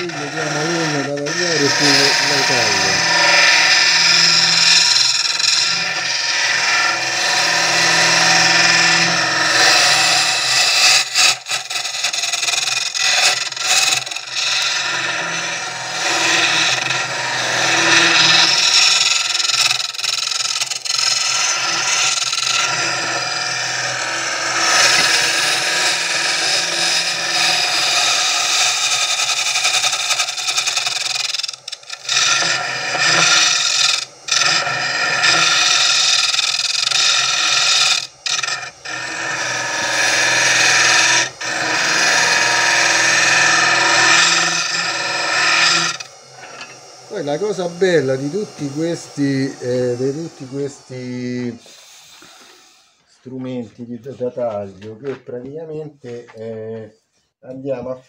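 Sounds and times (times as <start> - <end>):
wood lathe tool rasping: 0.0 - 54.6.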